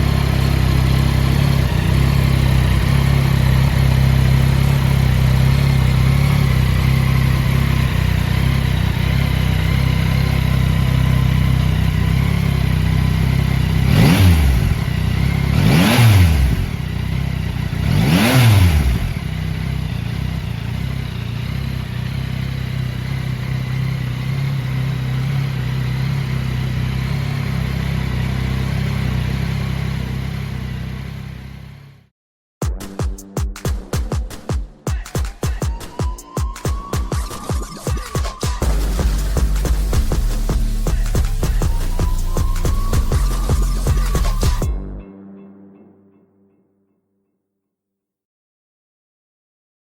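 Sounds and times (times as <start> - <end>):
motorcycle engine idling and revving: 0.0 - 32.1, 36.8 - 44.8.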